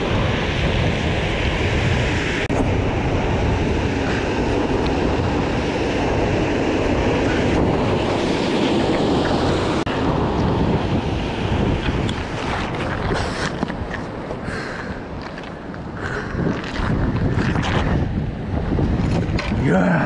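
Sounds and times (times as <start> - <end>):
heavy surf breaking on rocks: 0.0 - 20.0
wind on microphone: 0.0 - 20.0.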